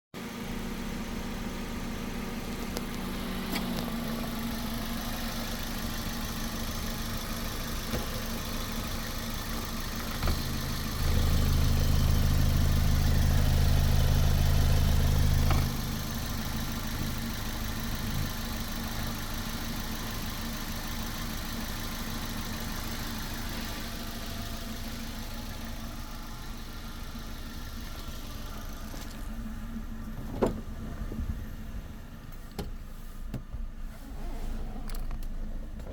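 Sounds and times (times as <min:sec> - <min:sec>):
car engine idling and revving: 0:00.2 - 0:35.9.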